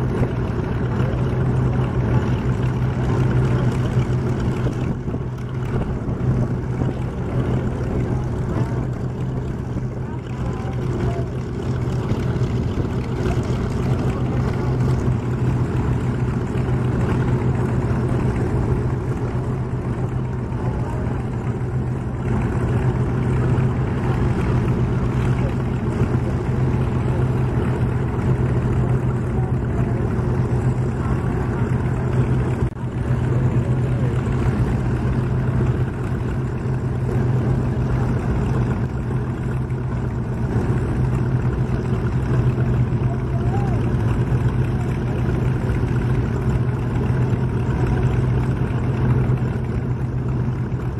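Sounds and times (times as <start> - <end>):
piston aircraft engines idling: 0.0 - 50.9.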